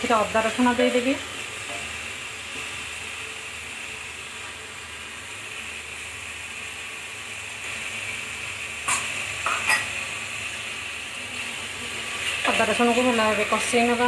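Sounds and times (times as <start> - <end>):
paste sizzling in oil: 0.0 - 14.0.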